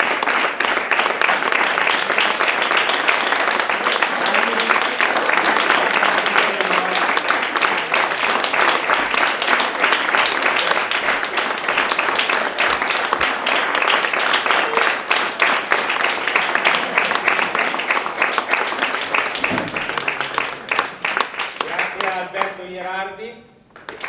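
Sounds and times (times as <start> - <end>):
audience applauding: 0.0 - 22.7, 23.7 - 24.0.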